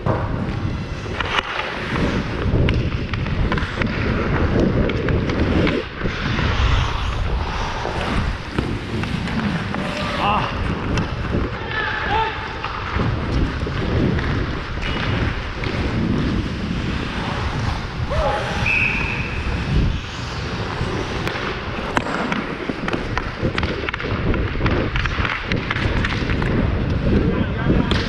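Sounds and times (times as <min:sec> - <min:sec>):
skate blades scraping ice: 0:00.0 - 0:28.0
sticks and puck clacking: 0:00.0 - 0:28.0.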